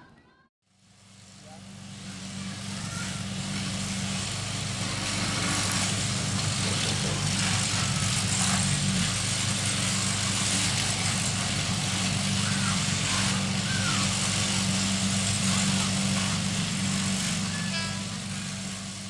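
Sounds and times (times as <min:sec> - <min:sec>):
electric train rumbling past: 0:00.7 - 0:19.0
heavy rain hiss: 0:00.7 - 0:19.0.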